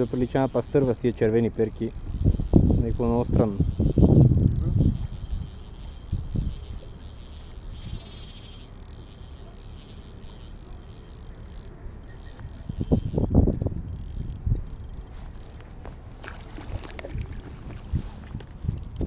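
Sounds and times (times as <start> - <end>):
wind rumbling on microphone: 0.0 - 8.8, 12.1 - 19.0
fishing reel whirring: 0.0 - 17.7.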